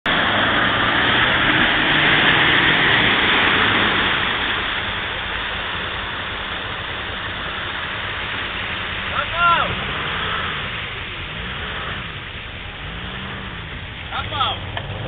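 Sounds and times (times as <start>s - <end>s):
off-road vehicle engine working hard: 0.0s - 15.0s
heavy splashing through mud: 0.1s - 15.0s.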